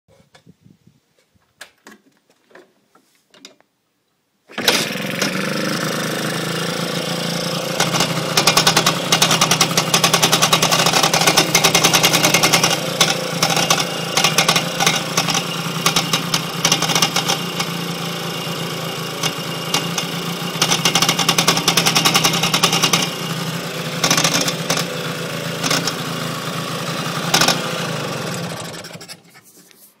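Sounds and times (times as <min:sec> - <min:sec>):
scooter engine running: 0:04.5 - 0:29.4.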